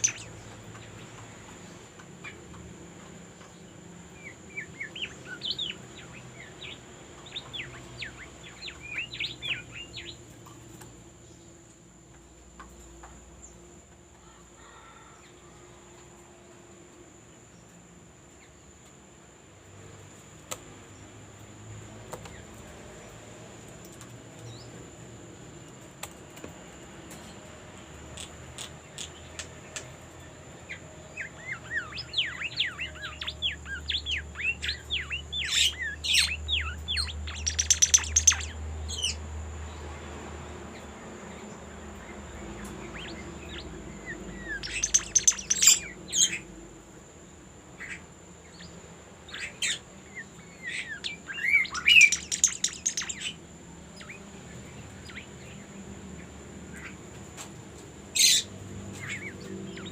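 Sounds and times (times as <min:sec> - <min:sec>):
songbird chirping and twittering: 0:00.0 - 0:59.9.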